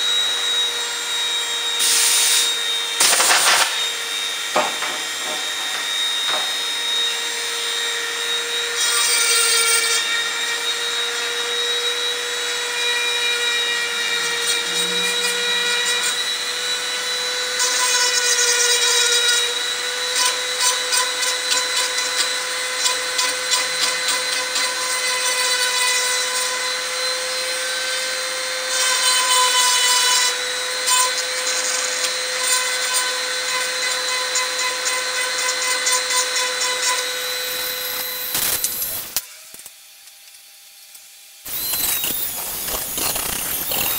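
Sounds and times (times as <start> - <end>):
rotary tool grinding metal: 0.0 - 43.9.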